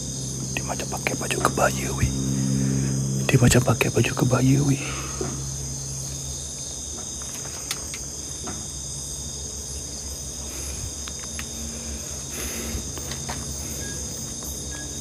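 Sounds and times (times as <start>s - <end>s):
chorus of crickets and insects: 0.0s - 15.0s
low hum: 0.0s - 15.0s.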